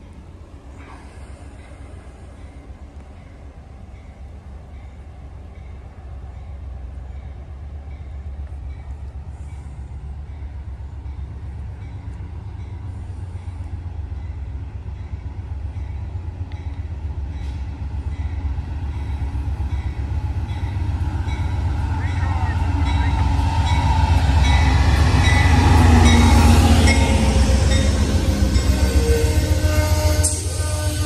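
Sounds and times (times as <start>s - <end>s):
diesel train engine and rail rumble: 0.0s - 31.0s.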